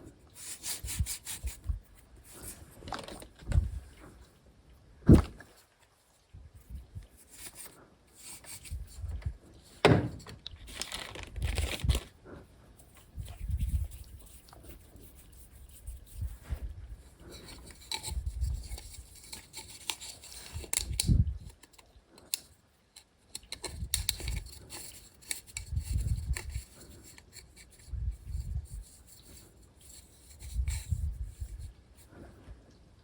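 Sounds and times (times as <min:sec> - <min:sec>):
rubbing and scraping: 0:00.0 - 0:04.2, 0:06.6 - 0:22.4, 0:23.3 - 0:32.4.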